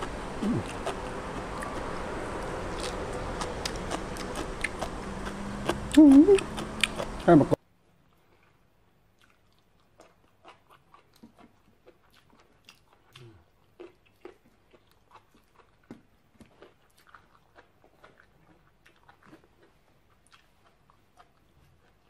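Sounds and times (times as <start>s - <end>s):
person chewing crunchy food: 0.0s - 7.5s, 9.2s - 22.0s.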